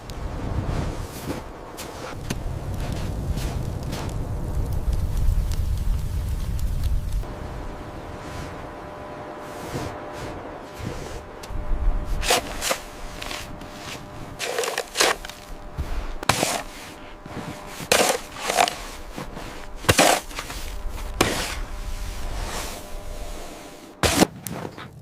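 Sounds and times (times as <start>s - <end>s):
low background rumble: 0.0s - 24.2s.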